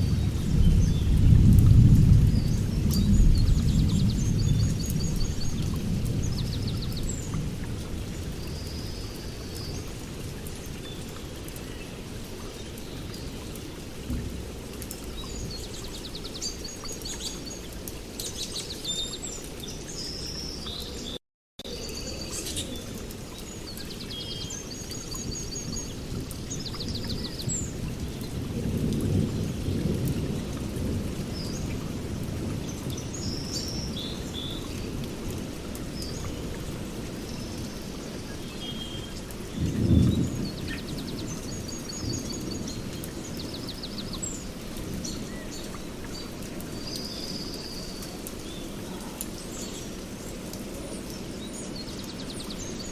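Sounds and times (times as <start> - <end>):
small birds chirping: 2.3 - 13.8, 14.4 - 31.9, 32.5 - 52.9.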